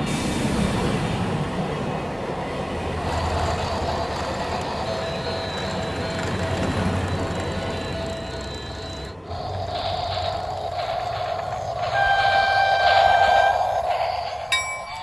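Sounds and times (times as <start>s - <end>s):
toy train motor whine: 3.0s - 15.0s
toy train wheels on track: 3.0s - 15.0s.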